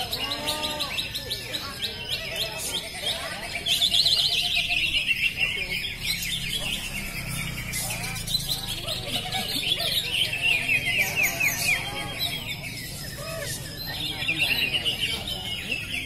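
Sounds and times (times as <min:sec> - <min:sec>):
birds chirping and trilling: 0:00.0 - 0:16.0.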